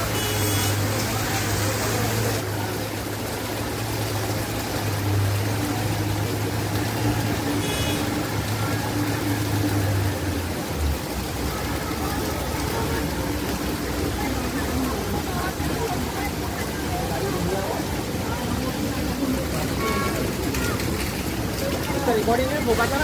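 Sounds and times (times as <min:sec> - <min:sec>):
faint indistinct voices: 0:00.0 - 0:23.0
heavy rain: 0:00.0 - 0:23.0.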